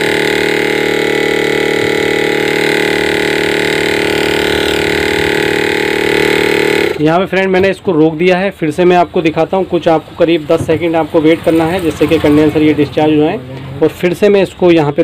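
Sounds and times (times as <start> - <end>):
refrigerator compressor humming: 0.0 - 14.5.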